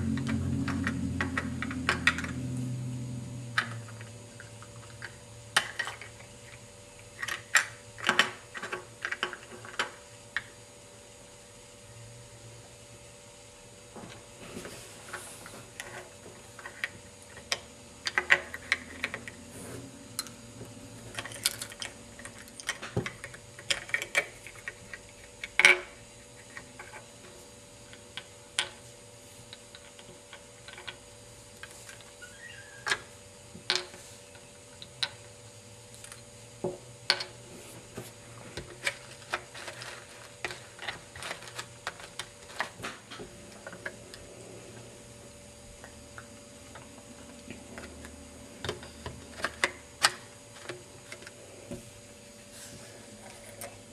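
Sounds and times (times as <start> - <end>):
faint steady hum: 0.0 - 53.9.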